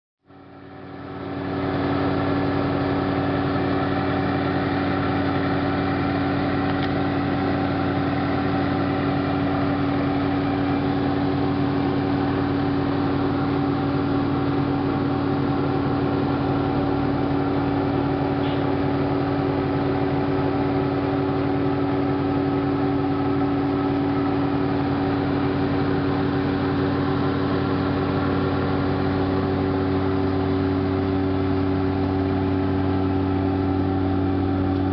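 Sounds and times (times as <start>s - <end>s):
engine idling hum: 0.2s - 34.9s.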